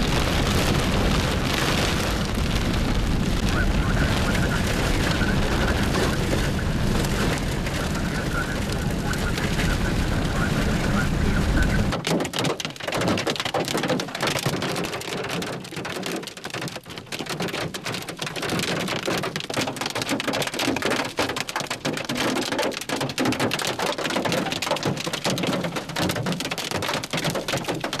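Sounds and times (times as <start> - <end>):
rain and hail on a car: 0.0 - 28.0.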